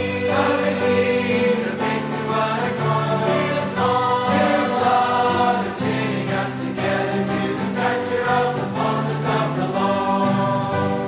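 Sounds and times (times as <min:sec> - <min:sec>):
choir singing a hymn: 0:00.0 - 0:11.0.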